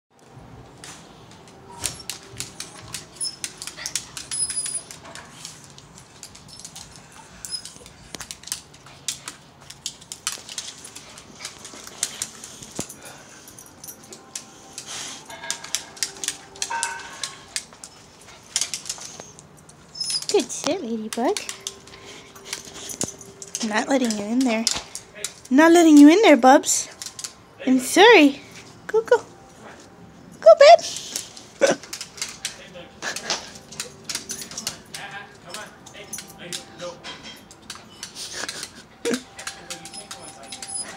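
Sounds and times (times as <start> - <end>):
dog claws clicking and scratching: 1.8 - 26.2, 26.9 - 27.4, 31.0 - 40.9.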